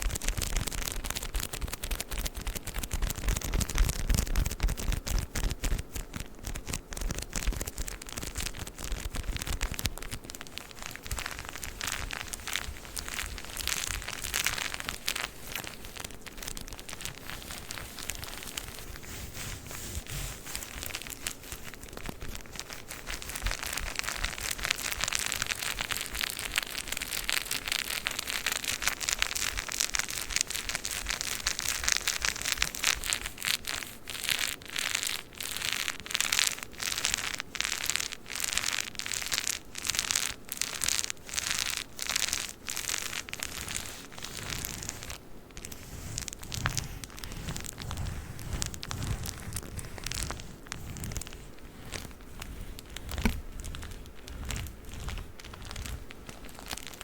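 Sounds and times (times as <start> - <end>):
tissue paper crinkling: 0.0 - 57.0.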